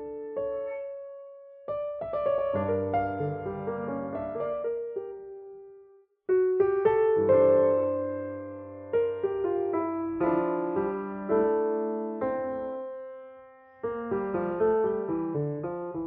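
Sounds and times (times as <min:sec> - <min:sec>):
grand piano playing: 0:00.0 - 0:16.0.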